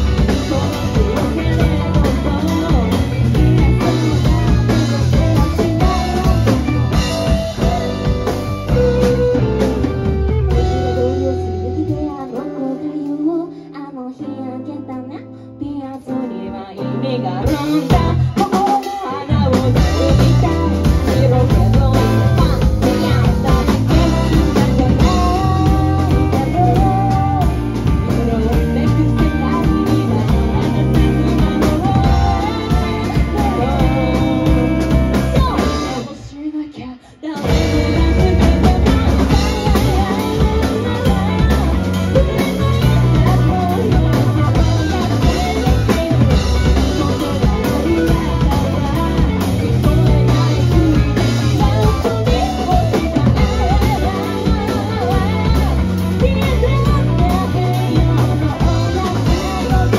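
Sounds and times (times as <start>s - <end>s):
drum kit: 0.0s - 14.3s, 15.8s - 59.9s
bass guitar: 0.0s - 36.3s, 37.4s - 59.9s
electric guitars: 0.0s - 59.9s
person singing: 0.0s - 59.9s.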